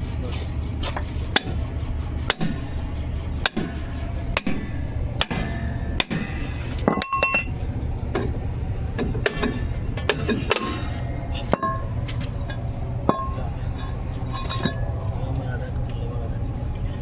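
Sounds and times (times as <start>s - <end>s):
continuous low hum: 0.0s - 17.0s.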